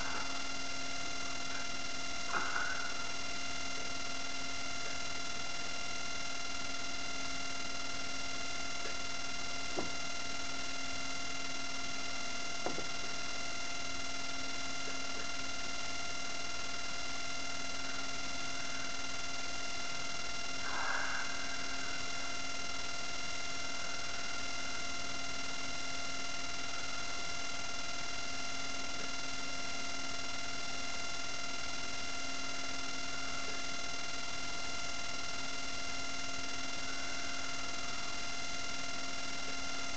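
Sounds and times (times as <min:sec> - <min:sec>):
electrical hum with whine: 0:00.0 - 0:39.9.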